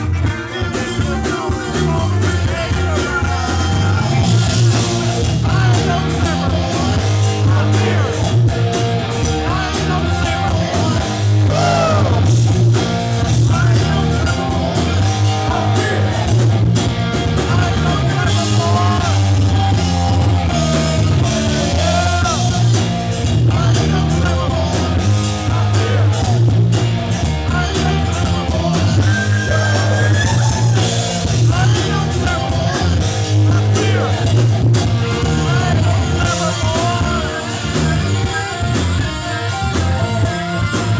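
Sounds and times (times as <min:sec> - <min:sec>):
person singing: 0:00.0 - 0:08.5, 0:09.1 - 0:12.4, 0:13.2 - 0:16.5, 0:17.3 - 0:26.5, 0:27.2 - 0:40.9
rock band playing: 0:00.0 - 0:40.9.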